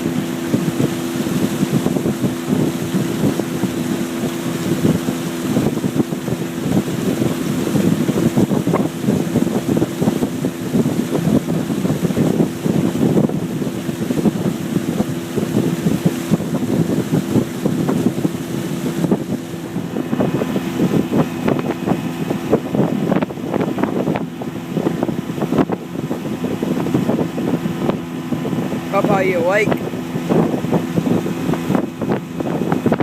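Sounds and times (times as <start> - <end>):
boat motor humming: 0.0 - 33.0
wind buffeting microphone: 0.0 - 33.0.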